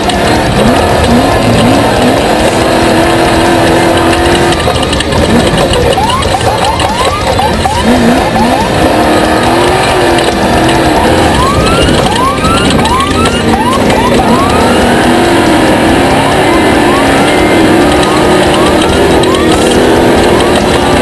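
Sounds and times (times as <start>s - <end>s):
race vehicle engine revving: 0.0s - 21.0s.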